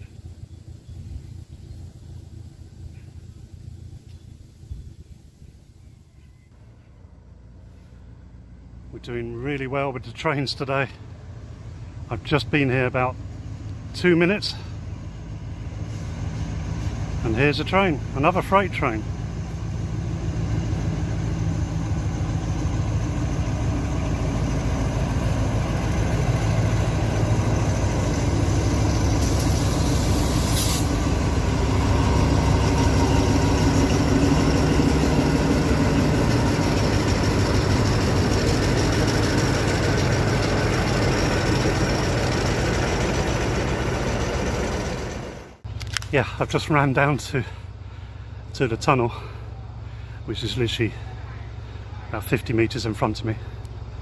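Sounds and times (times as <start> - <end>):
diesel locomotive engine rumble: 0.0 - 54.0.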